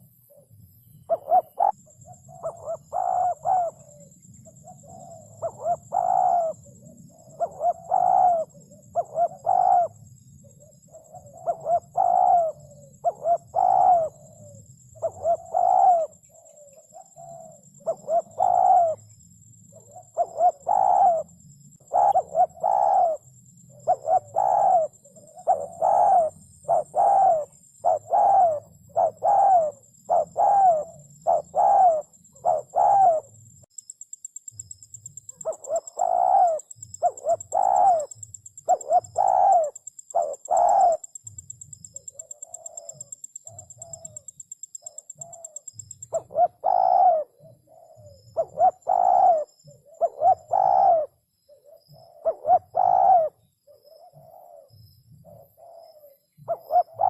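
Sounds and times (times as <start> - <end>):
doves cooing: 0.0 - 33.4, 35.2 - 57.0.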